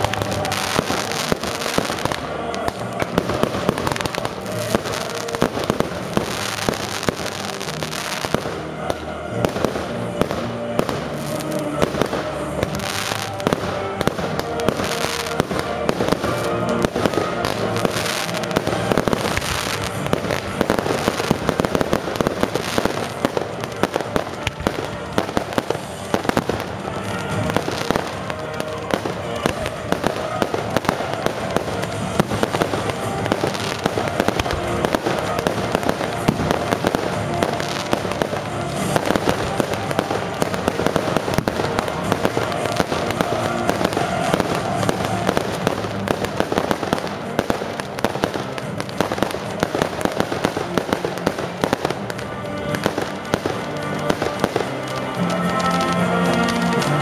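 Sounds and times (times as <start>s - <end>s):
firework bangs and crackles: 0.0s - 57.0s
music playing: 0.0s - 57.0s.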